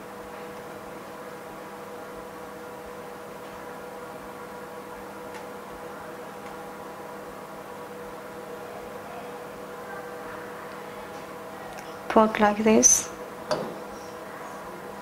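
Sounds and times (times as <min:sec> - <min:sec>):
electrical hum of equipment: 0:00.0 - 0:15.0.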